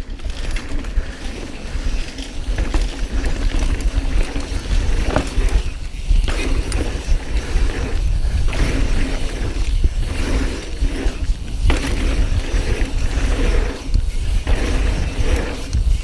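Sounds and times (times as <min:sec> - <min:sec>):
bike rattling over ground: 0:00.0 - 0:16.0
wind rumbling on microphone: 0:00.0 - 0:16.0.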